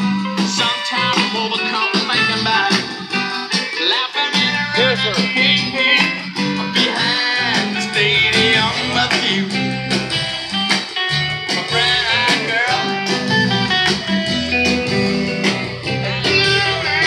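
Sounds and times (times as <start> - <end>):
country blues guitar music: 0.0 - 17.0.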